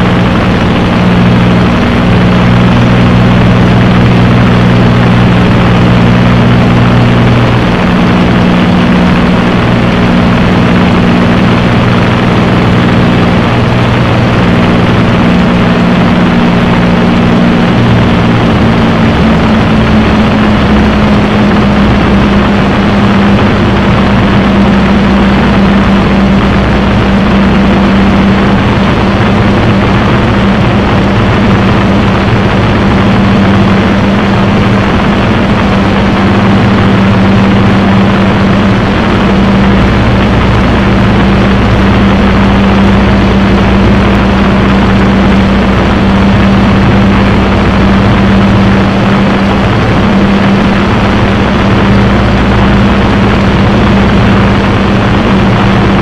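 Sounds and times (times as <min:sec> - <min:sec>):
aircraft piston engine droning: 0:00.0 - 0:56.0
rushing air noise: 0:00.0 - 0:56.0.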